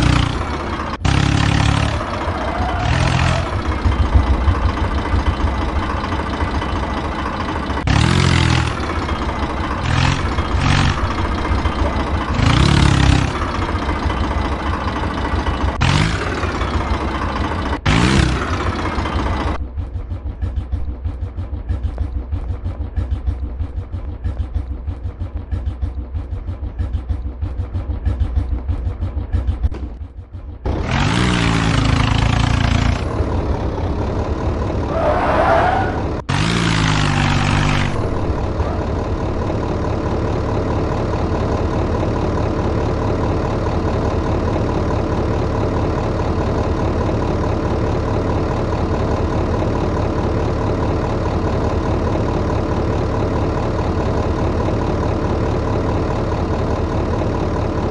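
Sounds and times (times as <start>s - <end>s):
tractor diesel engine idling: 0.0s - 36.3s, 36.9s - 57.9s
engine revving: 0.0s - 57.9s.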